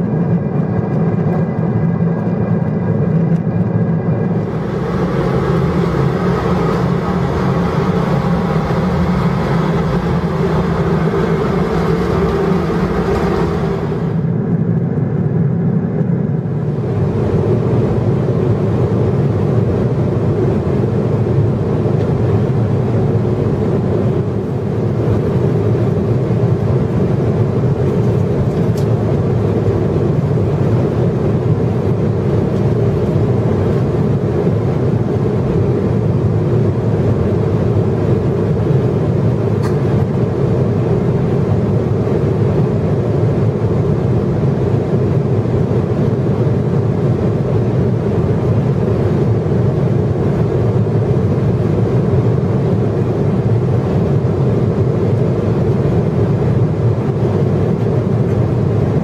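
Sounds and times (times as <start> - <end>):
airplane cabin airflow and engines: 0.0 - 59.0.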